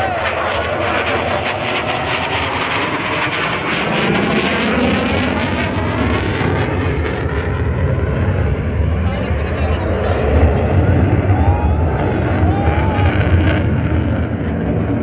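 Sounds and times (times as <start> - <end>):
military jet flying past: 0.0 - 15.0.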